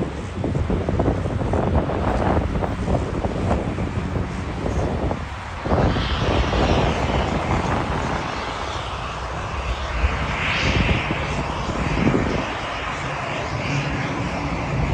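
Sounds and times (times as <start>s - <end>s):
jet engine rumble: 0.0s - 14.9s
wind buffeting microphone: 0.0s - 14.9s.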